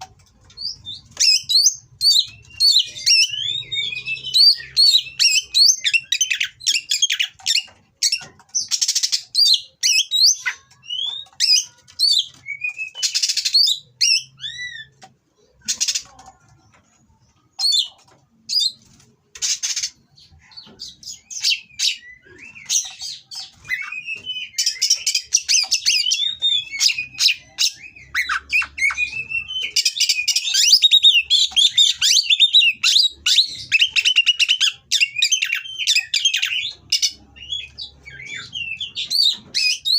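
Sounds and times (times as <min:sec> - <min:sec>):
songbird singing rasping and whistles: 0:00.0 - 0:39.9.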